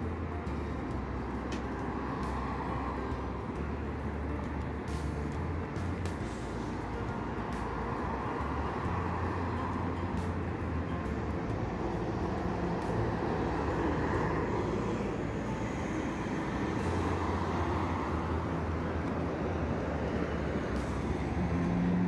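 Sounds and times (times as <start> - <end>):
bus passing: 0.0 - 22.0
road traffic passing: 0.0 - 22.0.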